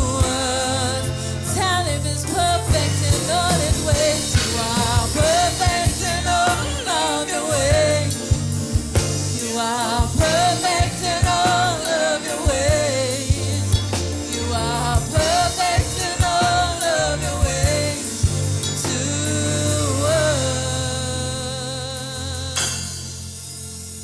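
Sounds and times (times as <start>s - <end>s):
gospel vocals singing: 0.0s - 23.6s
bass and drum kit: 0.0s - 24.0s.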